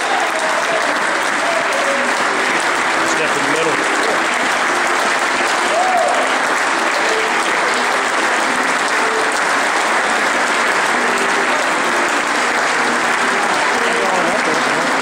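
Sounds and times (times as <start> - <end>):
steady applause: 0.0 - 15.0.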